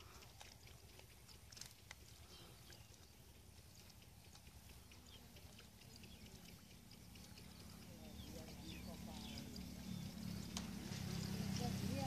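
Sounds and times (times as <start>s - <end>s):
faint high ticks: 0.0s - 9.7s.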